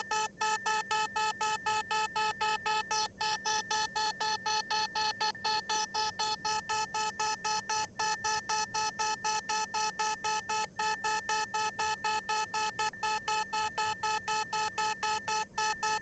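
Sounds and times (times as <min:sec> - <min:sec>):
pulsing electronic alarm beeps: 0:00.0 - 0:16.0.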